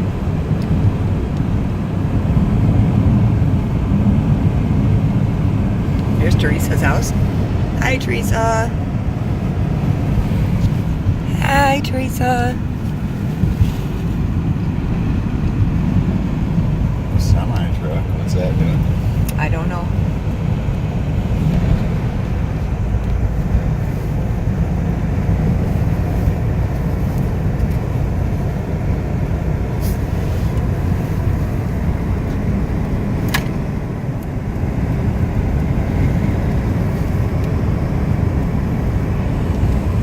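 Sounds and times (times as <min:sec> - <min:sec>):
road and wind noise in car: 0:00.0 - 0:40.0.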